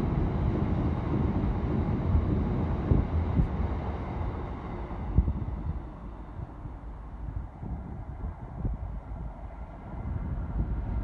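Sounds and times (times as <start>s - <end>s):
diesel locomotive rumble: 0.0s - 11.0s
wind buffeting microphone: 0.0s - 11.0s.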